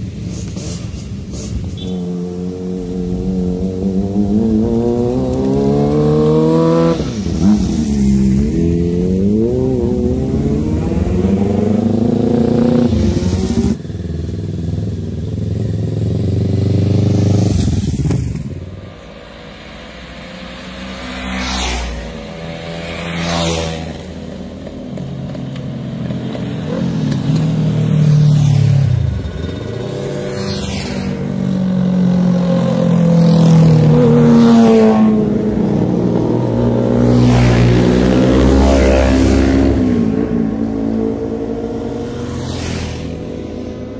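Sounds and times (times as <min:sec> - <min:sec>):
motorcycle engines revving: 0:00.0 - 0:43.9
motorcycles passing by: 0:00.0 - 0:43.9.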